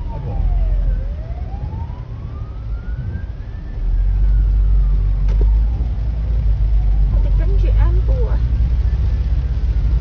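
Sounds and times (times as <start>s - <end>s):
ambulance siren wailing: 0.0s - 8.1s
car interior low rumble: 0.0s - 10.0s.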